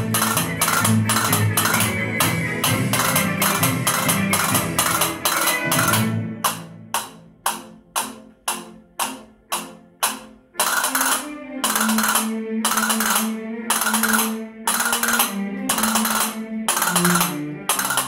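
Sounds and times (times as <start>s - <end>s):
castanets clacking: 0.0s - 18.0s
recorded music: 0.0s - 18.0s.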